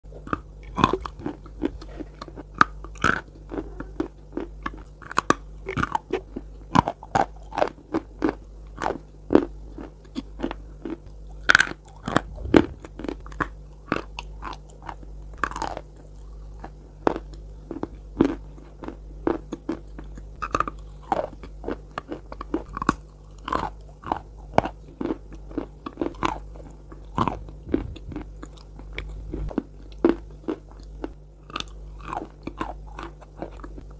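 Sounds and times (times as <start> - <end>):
soft chewing: 0.1 - 33.9
steady low hum: 0.1 - 33.9.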